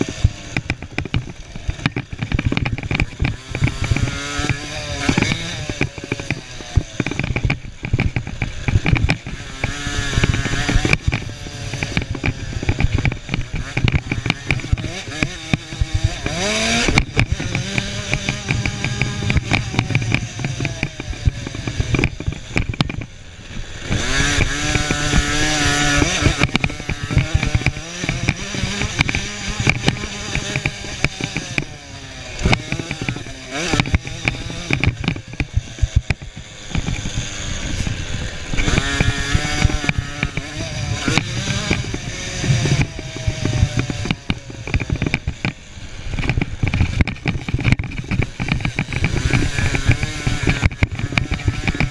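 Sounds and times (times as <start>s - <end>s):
motocross bike engines revving: 0.0s - 51.9s.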